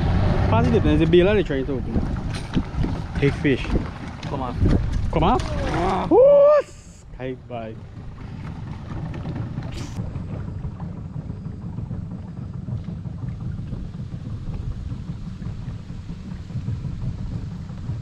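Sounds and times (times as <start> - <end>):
boat motor rumbling: 0.0 - 18.0
wind buffeting microphone: 0.0 - 18.0.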